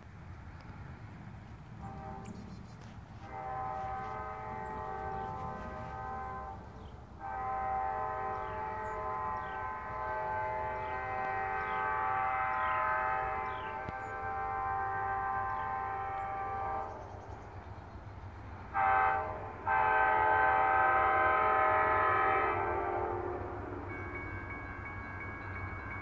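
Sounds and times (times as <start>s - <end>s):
locomotive air horn blasts: 1.7s - 17.4s, 18.4s - 24.2s.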